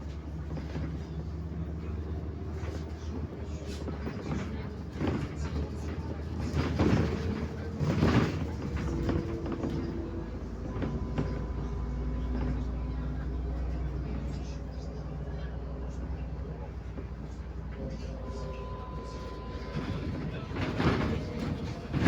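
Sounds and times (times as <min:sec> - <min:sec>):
bus engine droning: 0:00.0 - 0:22.0
road noise: 0:00.0 - 0:22.0.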